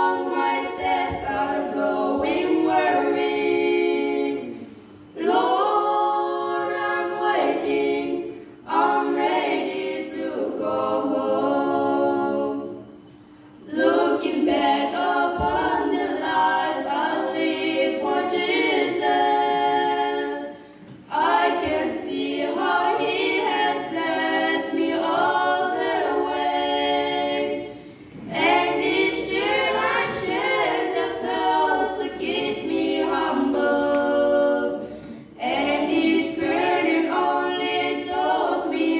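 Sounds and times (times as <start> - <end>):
girls singing a cappella: 0.0 - 38.9.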